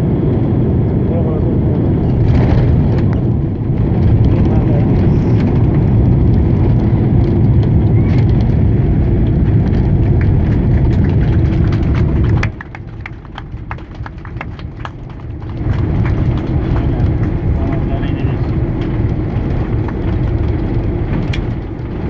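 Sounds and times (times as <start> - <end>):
airplane cabin rumble: 0.0 - 22.0.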